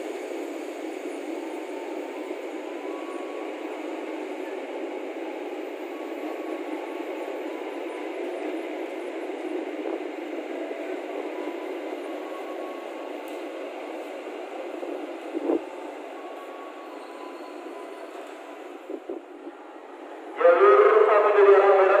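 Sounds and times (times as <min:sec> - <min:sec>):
passenger train running: 0:00.0 - 0:22.0.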